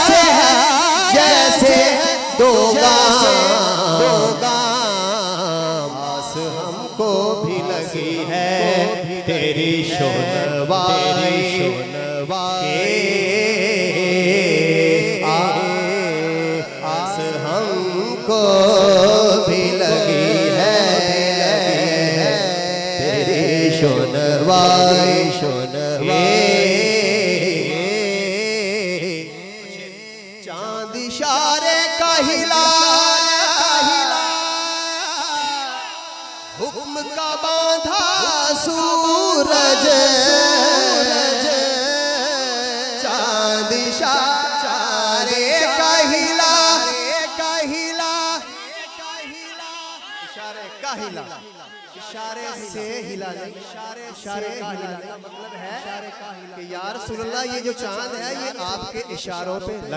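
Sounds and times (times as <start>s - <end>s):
man singing into a microphone: 0.0s - 59.9s.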